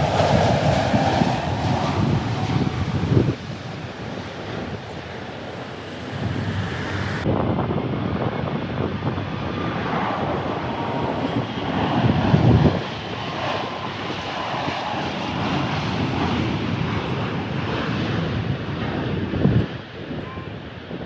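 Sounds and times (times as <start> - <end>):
jet airliner engines: 0.0 - 21.0.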